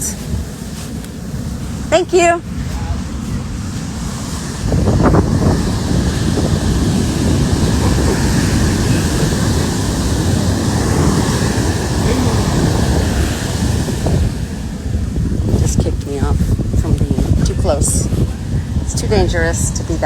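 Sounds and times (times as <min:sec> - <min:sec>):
heavy ocean surf: 0:00.0 - 0:20.0
wind buffeting microphone: 0:00.0 - 0:20.0.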